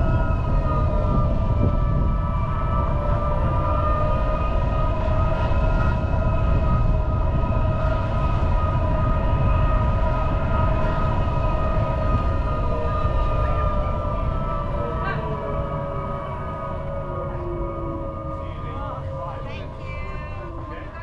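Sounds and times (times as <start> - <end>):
multi-tone whine: 0.0 - 21.0.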